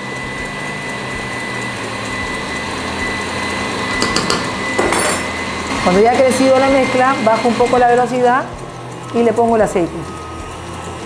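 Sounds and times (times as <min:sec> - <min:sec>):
stand mixer whipping: 0:00.0 - 0:11.0.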